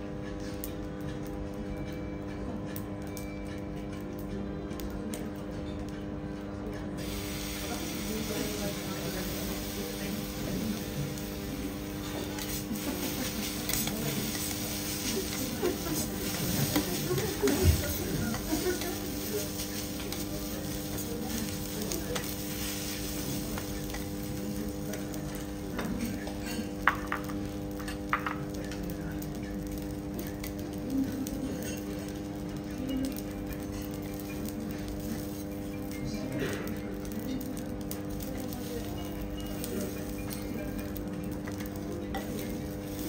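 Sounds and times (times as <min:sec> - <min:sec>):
rice sizzling on a griddle: 0:07.0 - 0:43.0.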